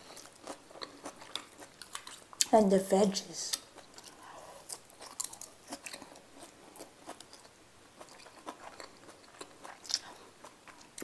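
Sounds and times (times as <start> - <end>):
chewing salad crunches: 0.0 - 2.5, 3.5 - 11.0.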